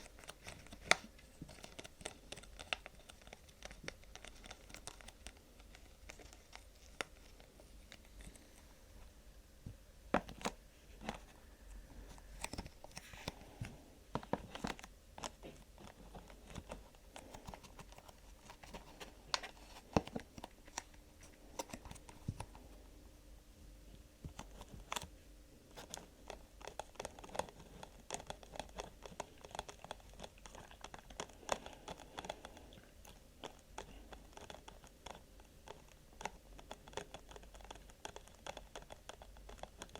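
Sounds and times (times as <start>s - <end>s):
hands tapping and scratching: 0.0s - 8.4s, 12.1s - 22.7s, 25.7s - 39.9s.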